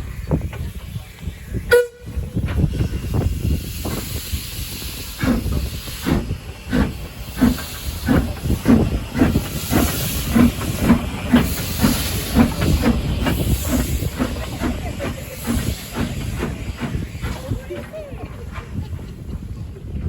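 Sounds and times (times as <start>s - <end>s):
steam hiss: 0.0s - 19.5s
steam locomotive exhaust beats: 0.0s - 20.0s.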